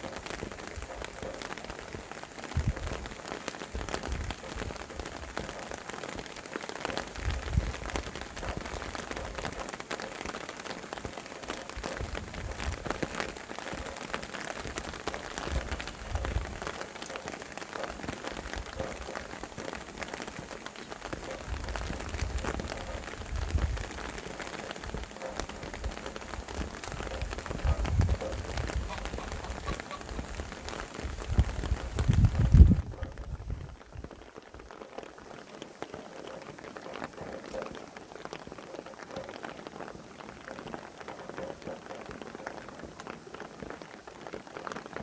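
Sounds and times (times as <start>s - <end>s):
low gusts of wind: 0.0s - 38.7s
rain drops ticking: 0.0s - 45.0s.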